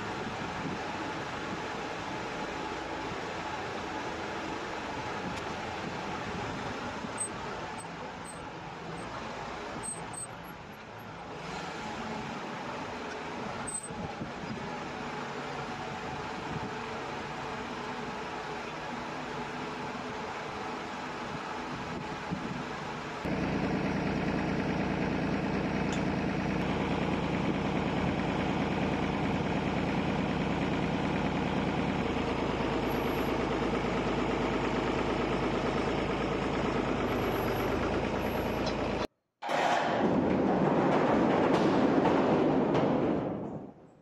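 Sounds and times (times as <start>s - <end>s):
tractor engine running: 0.0s - 39.1s.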